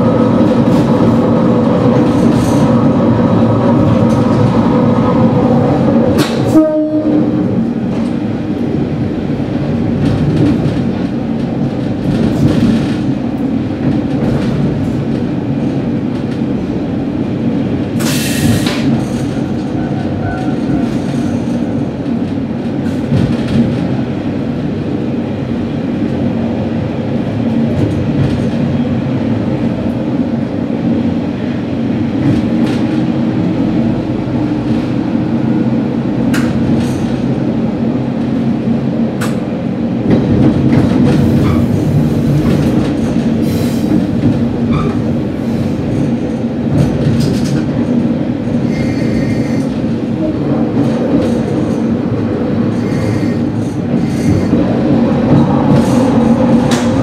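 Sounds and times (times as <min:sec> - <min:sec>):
diesel railcar engine humming: 0:00.0 - 0:57.0.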